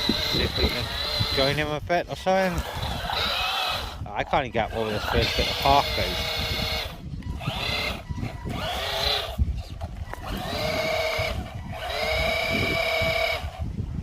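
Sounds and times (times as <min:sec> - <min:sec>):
electric toy truck motor whining: 0:00.0 - 0:14.0
wind on microphone: 0:00.0 - 0:14.0.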